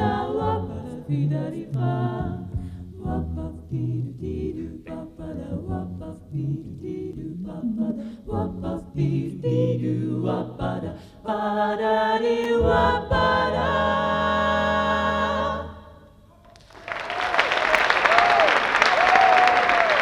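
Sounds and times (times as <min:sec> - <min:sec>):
a cappella group singing jazz: 0:00.0 - 0:16.2.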